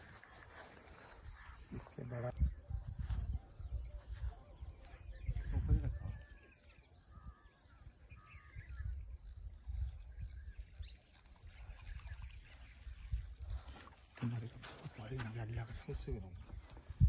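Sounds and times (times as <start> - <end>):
faint bird chirps: 0.0 - 17.0
wind rumbling on microphone: 0.0 - 17.0.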